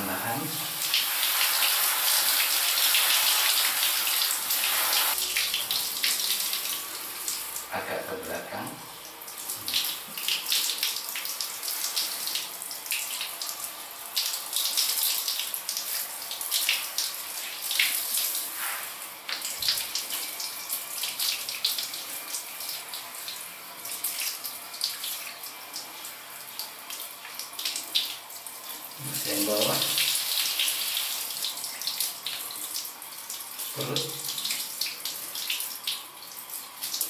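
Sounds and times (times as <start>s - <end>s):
shower spraying on dog's fur: 0.0s - 8.7s, 9.4s - 37.0s.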